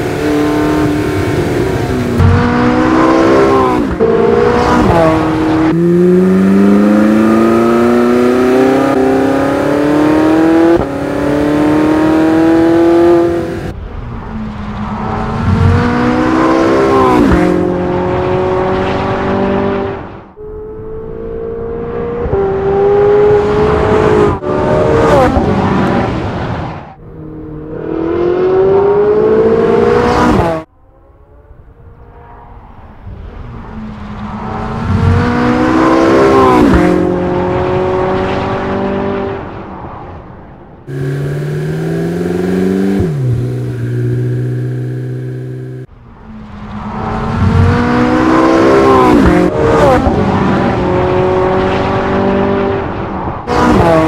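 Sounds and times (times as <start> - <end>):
race car engine at high revs: 0.0 - 13.8, 14.8 - 32.6, 33.2 - 40.1, 40.9 - 54.0.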